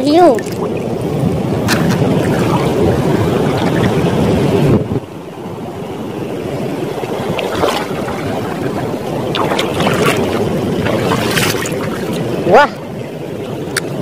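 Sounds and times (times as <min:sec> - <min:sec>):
water splashes: 0:00.0 - 0:04.9, 0:05.9 - 0:14.0
floodwater rushing: 0:00.0 - 0:14.0.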